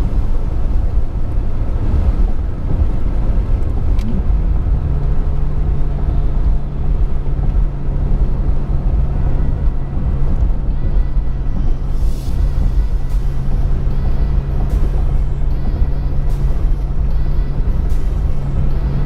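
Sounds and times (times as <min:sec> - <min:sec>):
car engine drone: 0:00.0 - 0:19.0
road and tyre rumble: 0:00.0 - 0:19.0.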